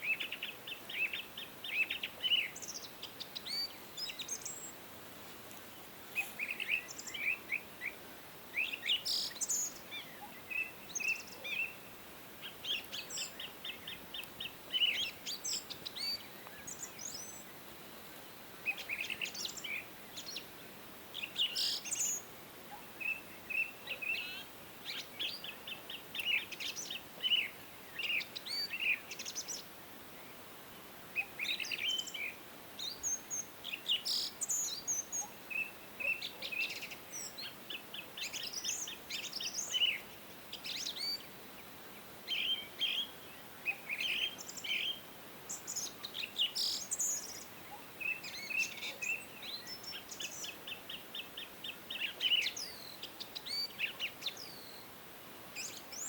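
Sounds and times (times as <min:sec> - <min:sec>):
faint outdoor hiss: 0:00.0 - 0:56.0.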